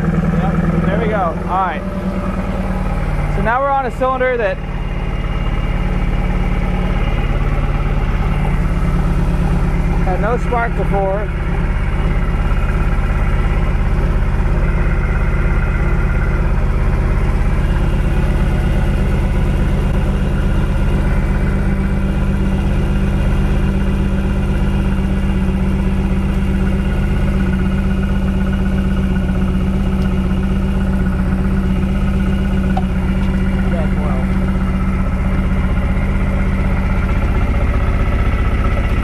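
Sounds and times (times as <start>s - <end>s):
car engine idling and misfiring: 0.0s - 39.0s.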